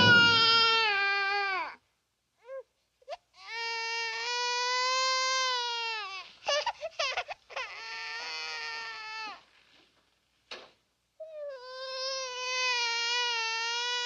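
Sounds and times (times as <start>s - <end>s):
baby crying: 0.0s - 1.8s, 2.4s - 9.5s, 11.2s - 14.0s.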